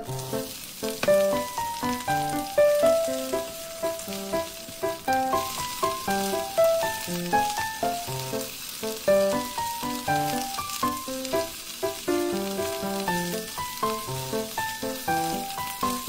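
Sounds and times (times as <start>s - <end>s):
spatula turning food in pan: 0.0s - 16.0s
vegetables sizzling in a frying pan: 0.0s - 16.0s.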